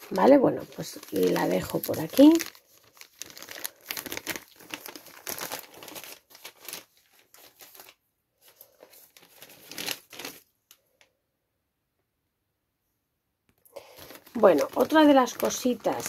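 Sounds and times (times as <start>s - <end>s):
plastic packaging crinkling: 0.0s - 10.8s, 13.6s - 16.0s.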